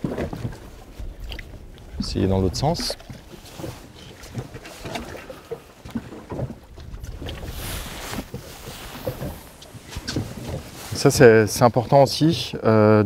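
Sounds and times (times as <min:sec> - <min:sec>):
wind on microphone: 0:00.0 - 0:05.2, 0:05.9 - 0:11.3
water lapping against boat hull: 0:00.0 - 0:13.0.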